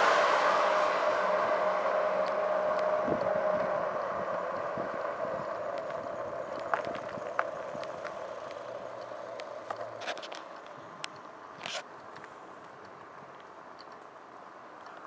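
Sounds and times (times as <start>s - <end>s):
vehicle engine: 0.0s - 14.3s
road noise: 0.0s - 15.0s.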